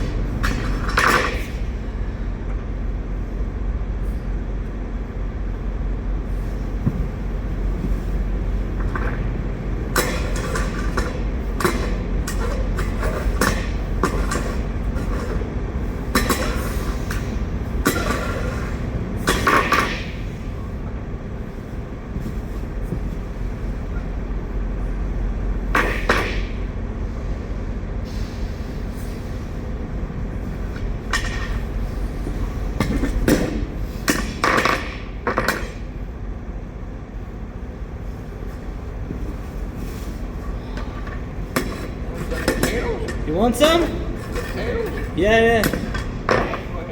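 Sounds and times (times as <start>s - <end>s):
trucks idling: 0.0s - 46.9s.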